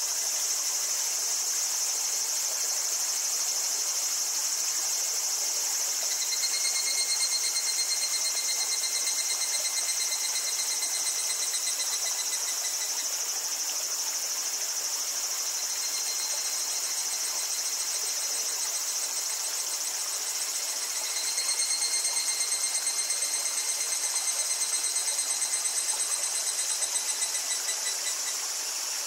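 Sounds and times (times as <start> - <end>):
cicadas chorus: 0.0 - 29.0
fast pulsing cicada call: 0.0 - 29.0
small stream babbling: 0.0 - 29.0.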